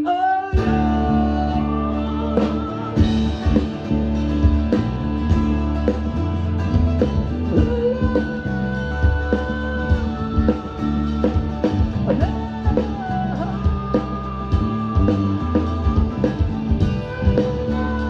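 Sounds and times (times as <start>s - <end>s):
bass line: 0.5s - 18.0s
bending lead guitar notes: 0.5s - 18.0s
drums keeping a steady beat: 0.5s - 18.0s.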